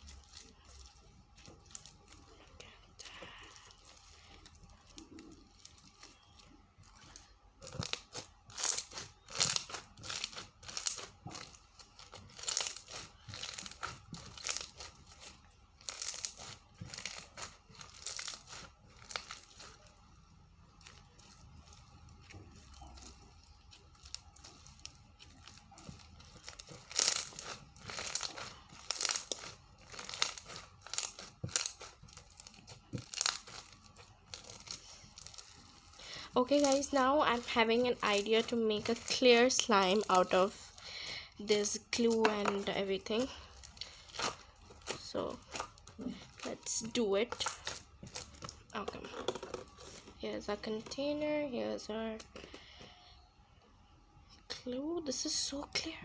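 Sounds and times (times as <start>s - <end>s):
foam slime crackling: 0.0s - 52.4s.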